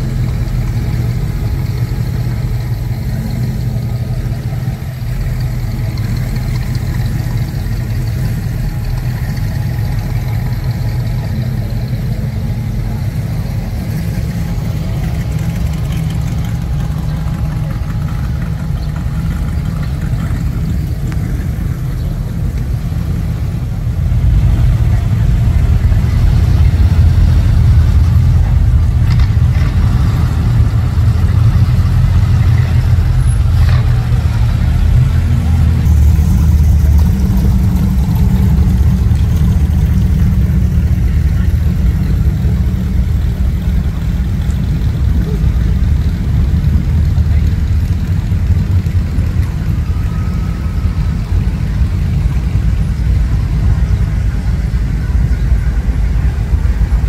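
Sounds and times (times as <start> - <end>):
car engines rumbling at low speed: 0.0 - 57.0.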